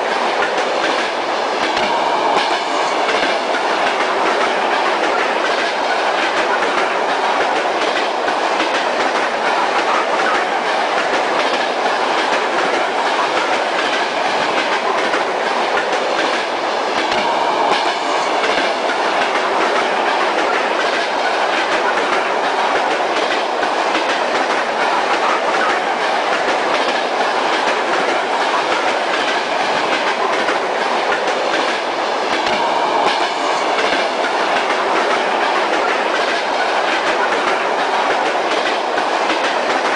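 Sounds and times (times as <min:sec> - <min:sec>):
wheels rolling on rail: 0:00.0 - 0:39.9.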